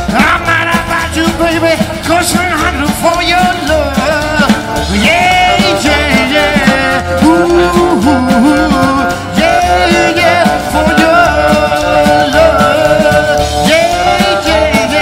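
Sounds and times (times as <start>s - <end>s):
live rock and roll band: 0.0s - 15.0s.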